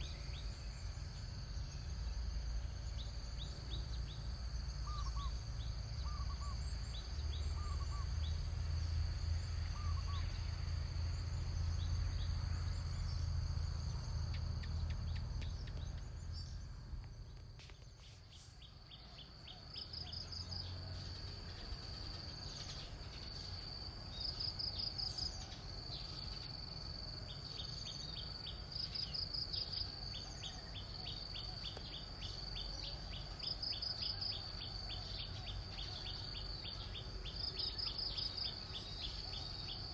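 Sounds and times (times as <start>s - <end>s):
pulsing insect trill: 0.0s - 39.9s.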